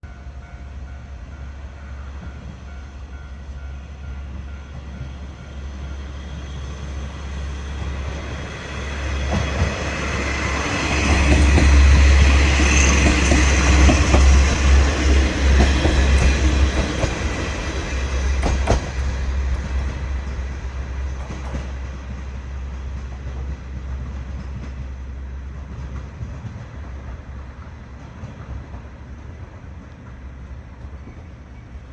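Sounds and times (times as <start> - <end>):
diesel railcar engine rumble: 0.0 - 31.9
train wheels clicking on rail joints: 4.2 - 31.9.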